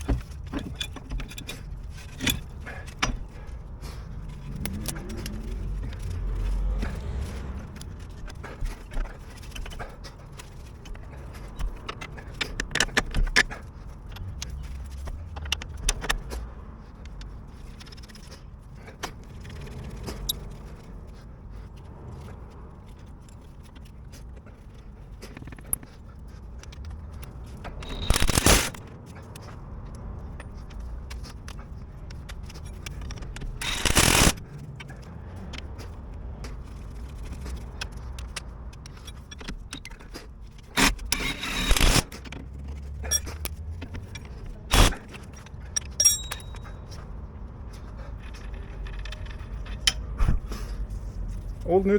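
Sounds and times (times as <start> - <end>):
metal tools clinking and scraping: 0.0 - 22.3, 23.0 - 50.2.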